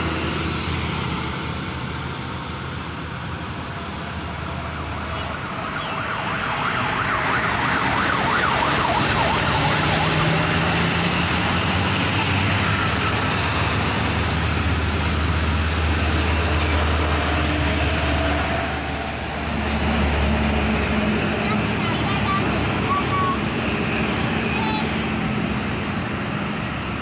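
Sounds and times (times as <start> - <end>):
heavy engine low hum: 0.0 - 27.0
road noise: 0.0 - 27.0.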